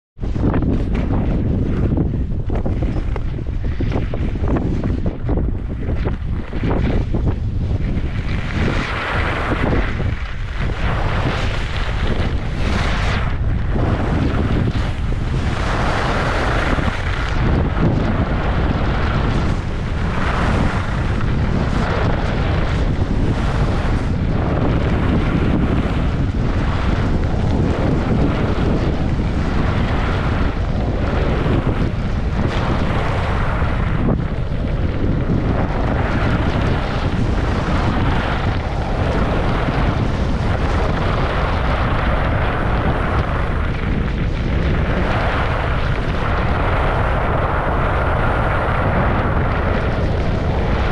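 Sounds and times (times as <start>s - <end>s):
wind buffeting microphone: 0.2s - 50.9s.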